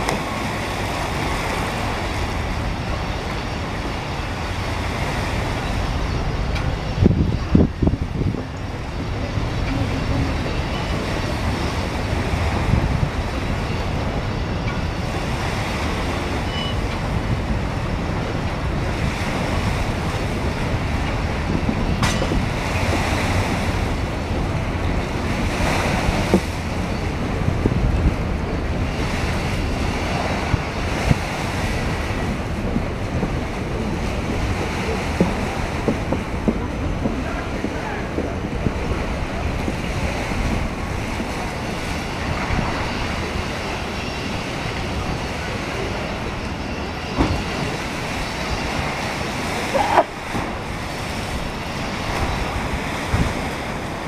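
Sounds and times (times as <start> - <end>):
train rumbling over steel bridge: 0.0 - 54.0
wind buffeting the microphone: 0.0 - 54.0.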